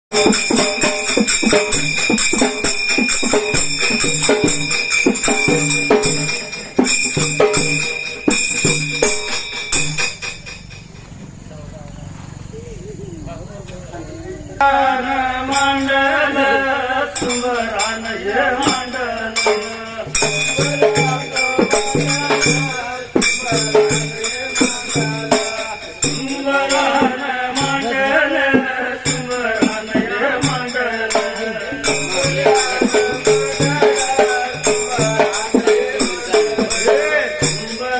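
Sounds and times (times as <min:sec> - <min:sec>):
drum strokes: 0:00.1 - 0:11.5, 0:14.6 - 0:37.9
jingling tambourine: 0:00.1 - 0:37.9.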